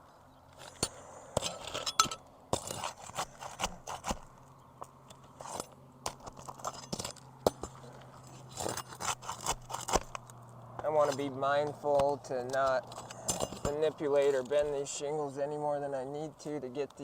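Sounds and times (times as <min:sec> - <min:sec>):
pry bar scraping shingles: 0:00.5 - 0:14.8.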